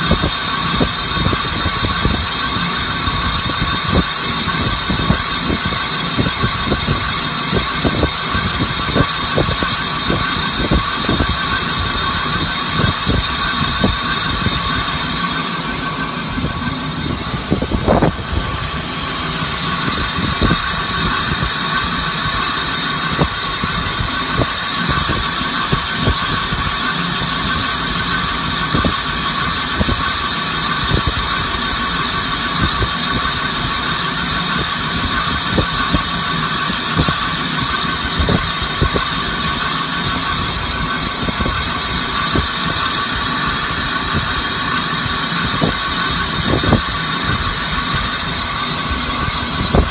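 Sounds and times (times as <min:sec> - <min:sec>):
machine tool high-pitched whine: 0:00.0 - 0:49.9.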